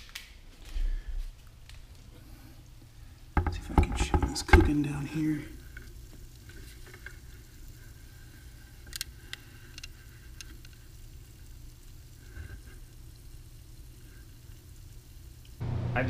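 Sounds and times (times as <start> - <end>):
steady low hum: 0.1 - 16.0
gas bubbles fizzing and popping: 2.6 - 15.6.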